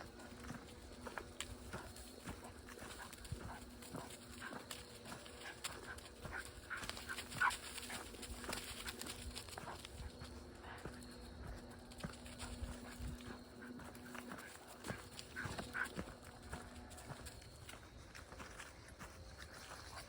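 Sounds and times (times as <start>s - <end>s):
footsteps crunching on trail: 0.0s - 20.0s.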